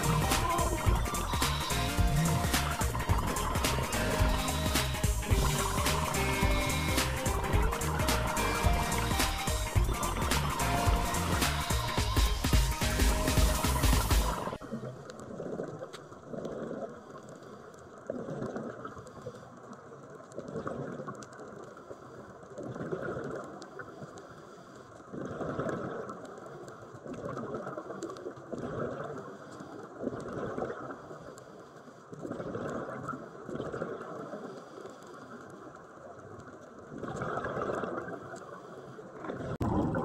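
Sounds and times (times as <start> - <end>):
underwater bubbles from divers: 0.0 - 24.2, 25.0 - 31.4, 32.1 - 40.0.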